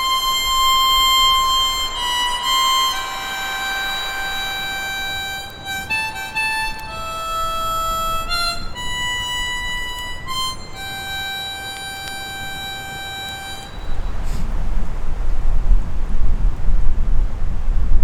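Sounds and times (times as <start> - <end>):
slow reedy wind instrument melody: 0.0 - 15.0.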